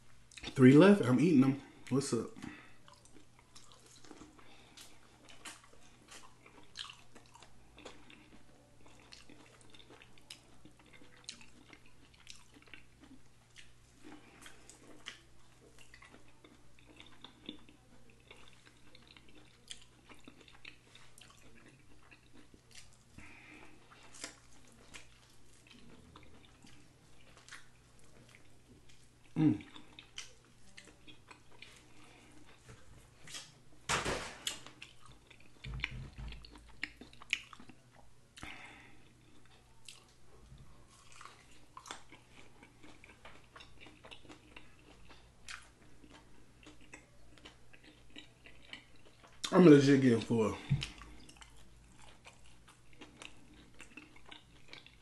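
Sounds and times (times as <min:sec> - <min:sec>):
chewing and lip smacking: 0:00.3 - 0:00.6, 0:01.7 - 0:33.6, 0:34.4 - 0:55.0.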